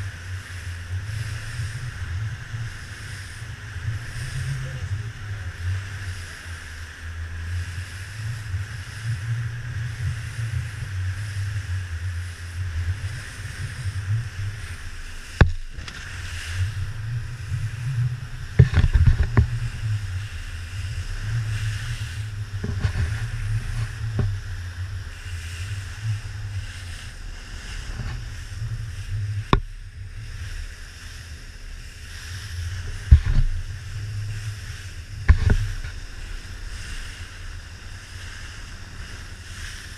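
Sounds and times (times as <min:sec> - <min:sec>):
boat engine rumble: 0:00.0 - 0:39.9
wind and water noise: 0:00.0 - 0:39.9.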